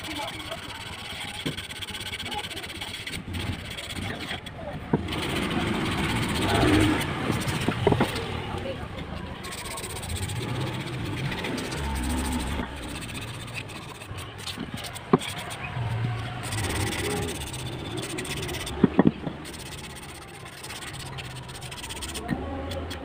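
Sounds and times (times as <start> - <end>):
sandpaper scraping wood: 0.0 - 8.3, 9.2 - 23.0.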